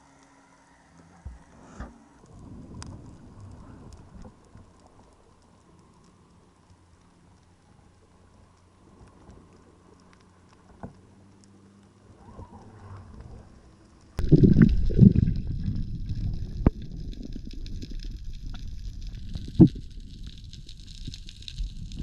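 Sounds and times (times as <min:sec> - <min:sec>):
underwater rumbling and gurgling: 0:01.2 - 0:22.0.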